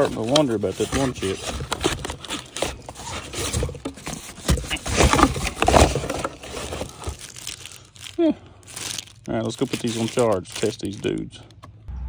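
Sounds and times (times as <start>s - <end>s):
tools and plastic packaging handled: 0.0s - 11.6s.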